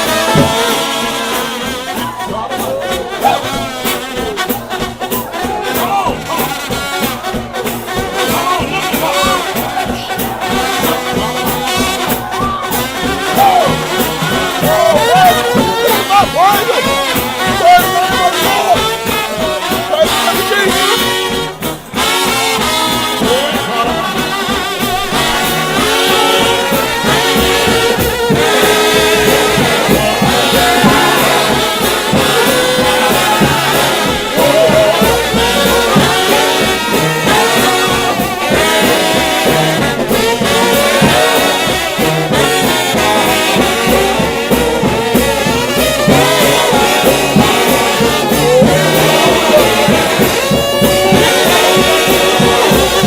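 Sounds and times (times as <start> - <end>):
trombone brass band playing: 0.0 - 53.0.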